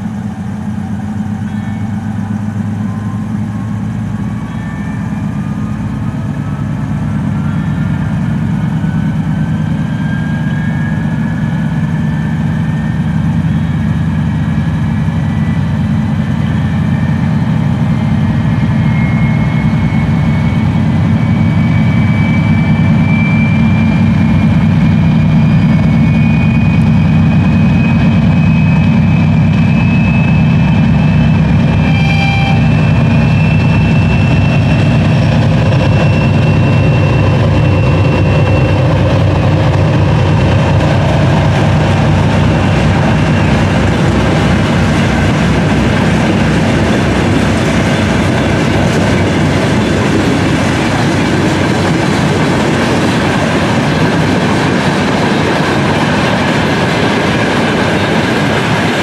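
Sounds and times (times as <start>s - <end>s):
diesel locomotive drone: 0.0s - 59.0s
high thin wheel squeal: 0.2s - 59.0s.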